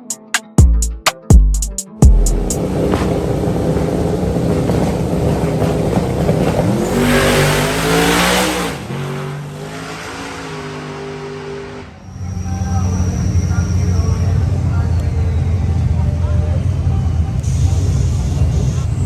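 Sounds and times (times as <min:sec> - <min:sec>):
truck engine revving and idling: 0:02.0 - 0:19.0.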